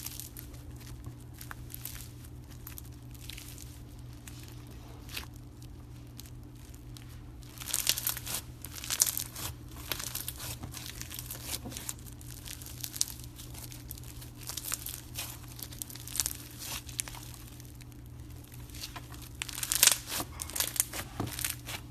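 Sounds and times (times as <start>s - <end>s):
slime squished by hand: 0.0s - 21.9s.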